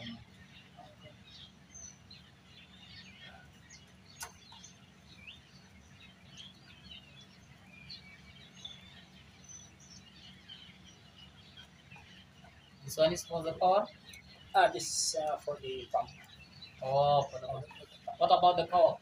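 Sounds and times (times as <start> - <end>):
faint birds chirping: 0.0 - 19.0
low steady hum: 0.0 - 19.0.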